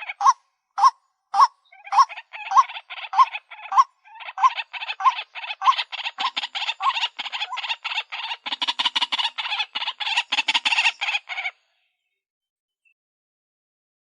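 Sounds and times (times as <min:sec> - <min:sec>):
bird calling repeated notes: 0:00.0 - 0:11.6.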